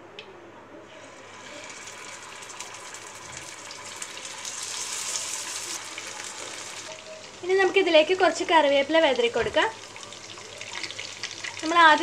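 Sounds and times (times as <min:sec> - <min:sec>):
fish sizzling in hot oil: 0:01.2 - 0:12.0.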